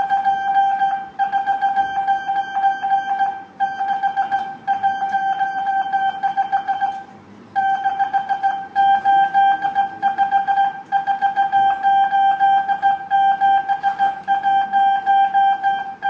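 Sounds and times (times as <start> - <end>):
morse code tone: 0.0 - 16.0.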